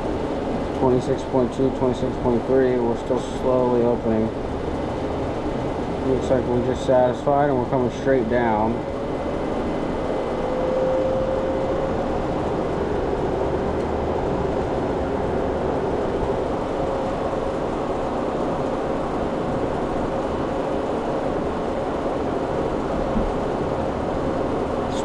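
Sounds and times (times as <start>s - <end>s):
mid-pitched machine whine: 0.0s - 25.0s
refrigeration and ventilation drone: 0.0s - 25.0s.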